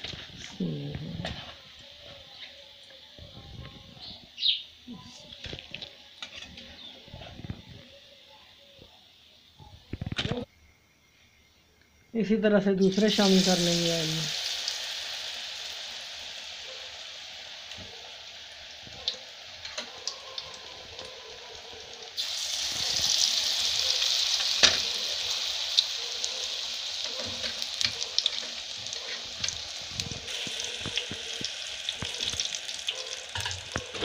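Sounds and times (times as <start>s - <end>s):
battered food deep-frying in oil: 0.0s - 10.5s, 12.8s - 34.0s.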